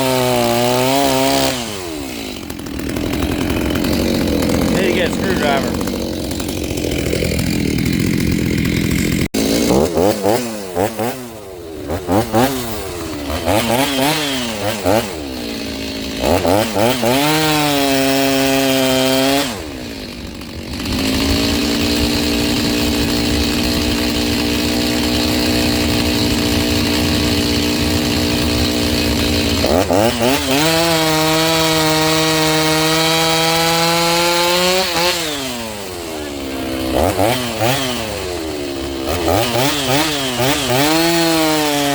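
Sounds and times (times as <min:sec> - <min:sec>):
chainsaw engine revving: 0:00.0 - 0:41.9.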